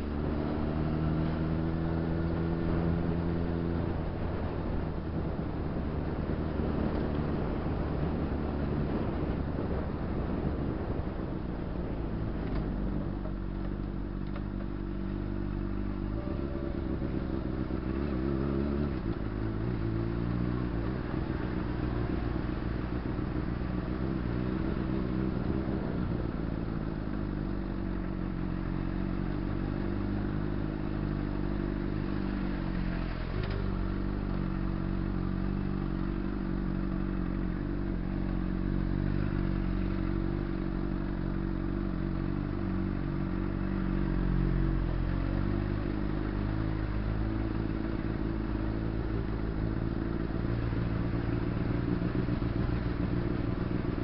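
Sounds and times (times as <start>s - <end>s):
motorcycle engine running at low revs: 0.0s - 54.0s.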